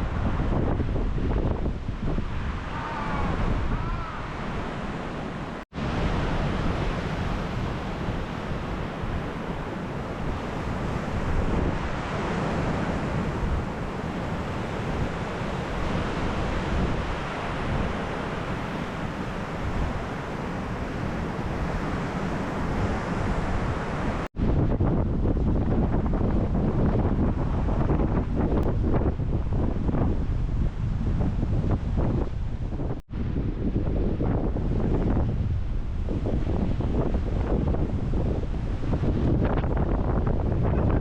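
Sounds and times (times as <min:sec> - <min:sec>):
gusting wind on microphone: 0:00.0 - 0:41.0
surf on the shore: 0:00.0 - 0:41.0.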